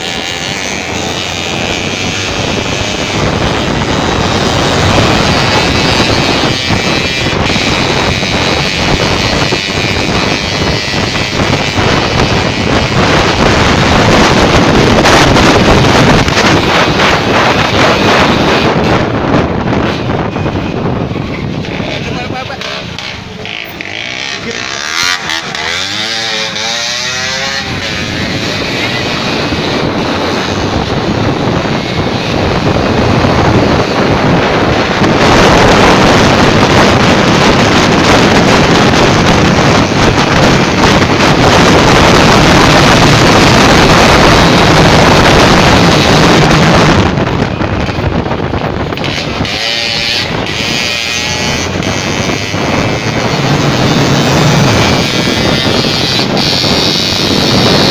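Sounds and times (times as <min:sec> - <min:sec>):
auto rickshaw engine running: 0:00.0 - 0:57.9
loud steady rush of noise: 0:00.0 - 0:57.9.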